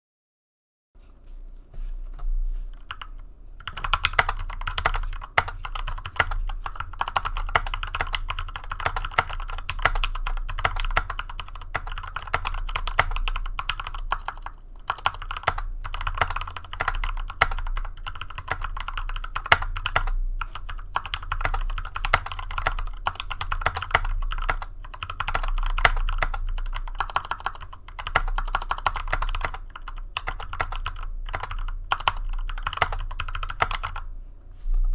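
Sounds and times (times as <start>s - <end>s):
low steady hum: 1.0s - 34.9s
mechanical keyboard typing: 2.8s - 34.1s.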